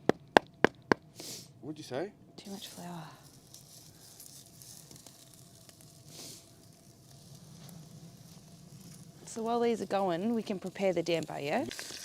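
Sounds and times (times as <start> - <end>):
meat sizzling in a pot: 1.2 - 1.5, 2.4 - 12.0.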